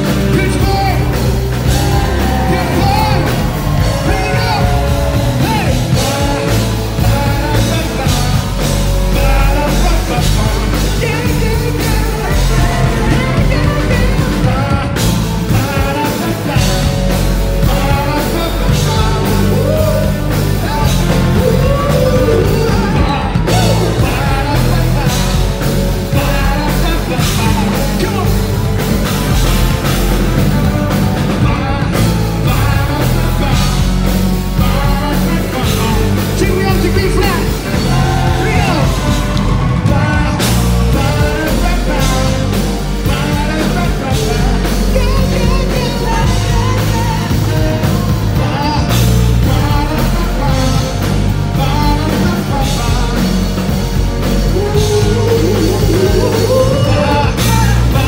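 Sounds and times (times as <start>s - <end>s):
funk rock band playing: 0.0s - 58.0s
man singing: 0.0s - 58.0s.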